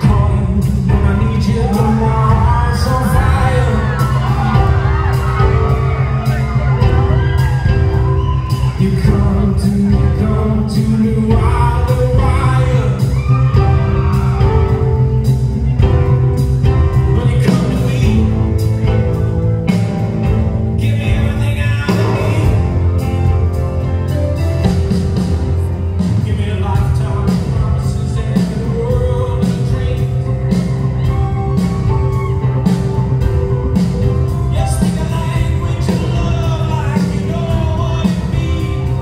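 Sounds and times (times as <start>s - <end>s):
man singing: 0.0s - 16.1s, 16.8s - 23.5s, 25.6s - 39.0s
drum beat: 0.0s - 39.0s
guitar: 0.0s - 39.0s
piano: 0.0s - 39.0s.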